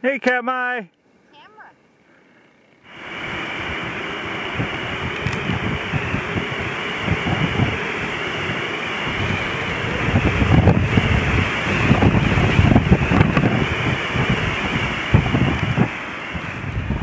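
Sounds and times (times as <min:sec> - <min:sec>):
wind blowing across microphone: 0:02.9 - 0:17.0
wind gusts thudding on microphone: 0:02.9 - 0:17.0.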